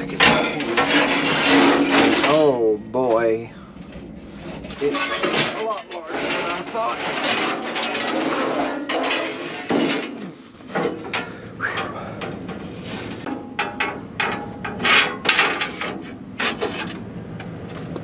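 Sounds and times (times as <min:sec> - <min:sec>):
steel plate scraping: 0:00.0 - 0:17.7
metal knocks and clanks: 0:00.0 - 0:18.0.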